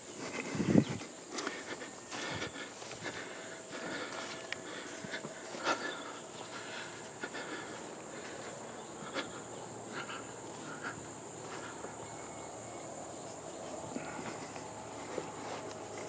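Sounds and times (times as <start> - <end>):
insects droning: 0.0 - 16.0
soft footsteps on grass: 0.0 - 16.0.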